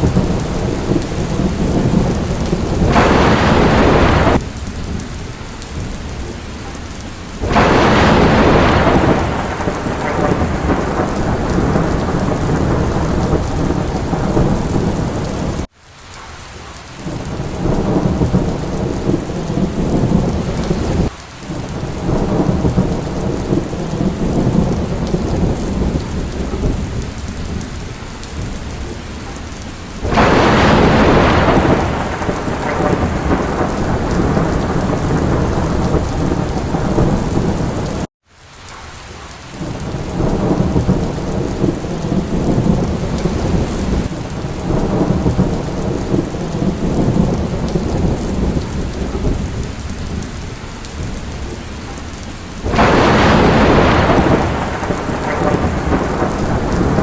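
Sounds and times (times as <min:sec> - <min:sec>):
thunder claps rolling: 0:00.0 - 0:05.1, 0:07.4 - 0:15.7, 0:17.0 - 0:27.7, 0:30.0 - 0:38.1, 0:39.6 - 0:50.4, 0:52.6 - 0:57.0
heavy rain: 0:00.0 - 0:57.0.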